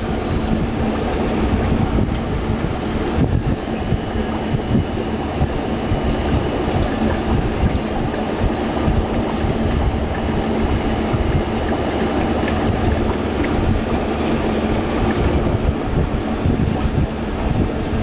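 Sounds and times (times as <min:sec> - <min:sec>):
constant low hum: 0:00.0 - 0:18.0
steady rumbling noise: 0:00.0 - 0:18.0.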